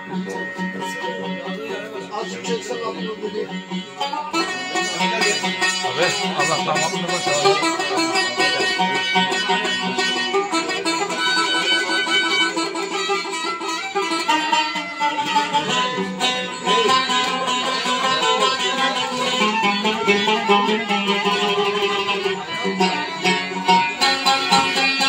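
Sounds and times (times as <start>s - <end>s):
hand drum: 0.0s - 25.0s
plucked string instrument: 0.0s - 25.0s
violin melody: 0.0s - 25.0s.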